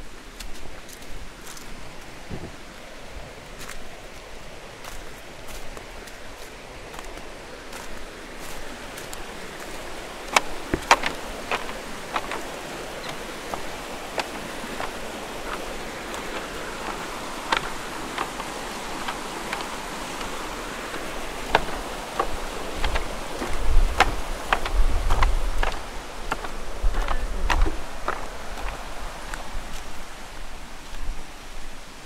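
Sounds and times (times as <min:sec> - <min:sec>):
footsteps on wooden bridge: 0:00.0 - 0:31.2
flowing water: 0:00.0 - 0:32.0.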